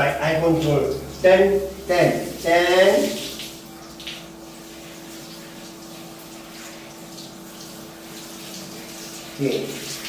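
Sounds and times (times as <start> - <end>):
water running: 0.0 - 10.0.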